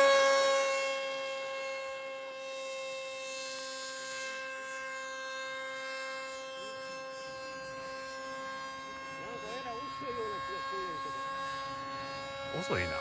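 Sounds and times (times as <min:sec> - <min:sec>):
model plane motor whining: 0:00.0 - 0:13.0.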